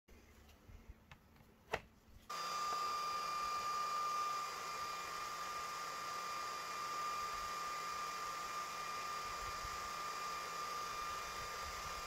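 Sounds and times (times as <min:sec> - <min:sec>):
small motor whining: 0:02.3 - 0:12.0.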